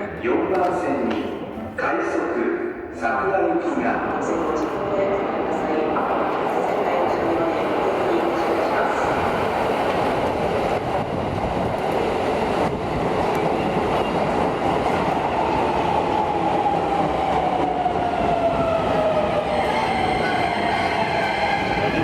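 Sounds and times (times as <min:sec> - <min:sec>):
subway train rumble and hiss: 0:00.0 - 0:22.0.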